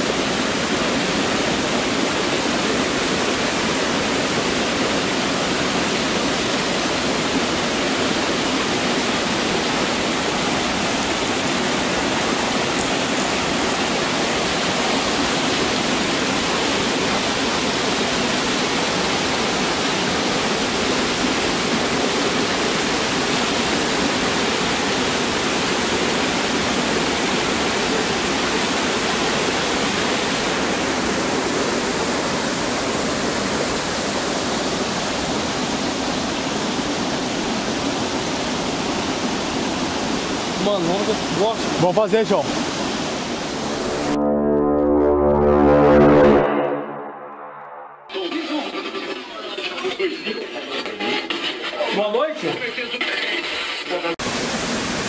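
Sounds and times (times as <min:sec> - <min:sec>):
waterfall rushing: 0:00.0 - 0:44.2, 0:54.2 - 0:55.0.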